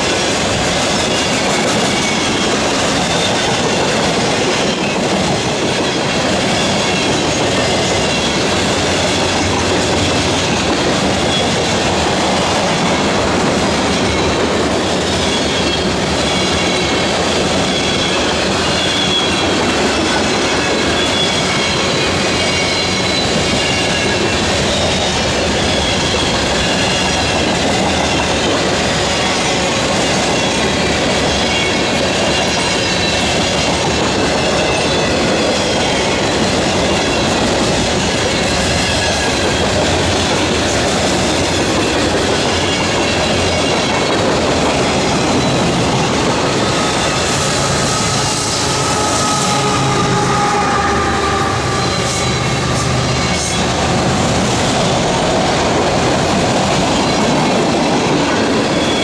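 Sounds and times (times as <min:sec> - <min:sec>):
diesel locomotive engine hum: 0:00.0 - 0:59.0
train wheels clattering over rail joints: 0:00.0 - 0:59.0
high wheel squeal: 0:05.8 - 0:59.0.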